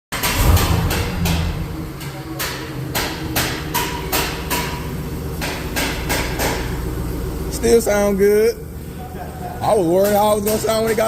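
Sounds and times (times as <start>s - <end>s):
engine rumbling: 0.1s - 10.0s.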